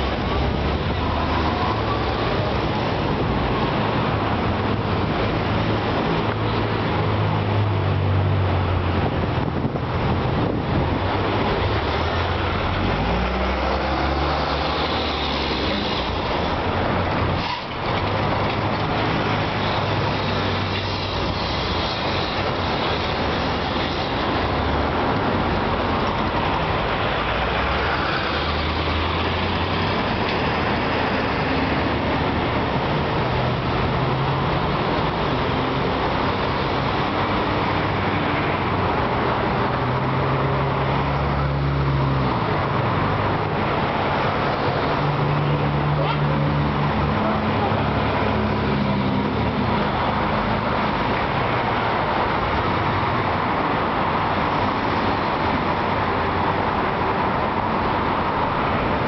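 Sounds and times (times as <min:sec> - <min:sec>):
vehicle engines droning: 0:00.0 - 0:59.0
tyres hissing on road: 0:10.0 - 0:59.0.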